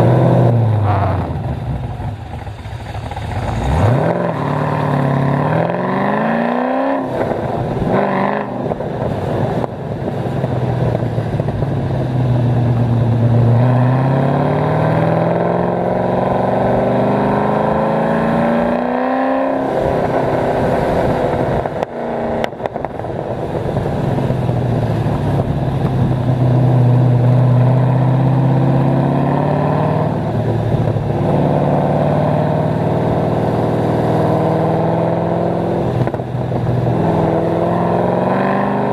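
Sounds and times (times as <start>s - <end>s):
car engine revving through gears: 3.2s - 9.7s, 12.5s - 23.2s, 24.0s - 38.9s.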